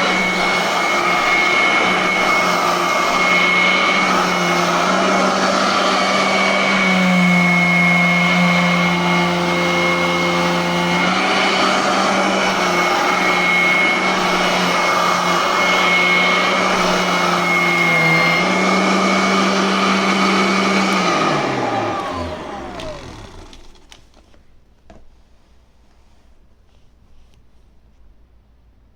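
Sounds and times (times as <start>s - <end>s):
upright vacuum cleaner running: 0.0s - 24.3s.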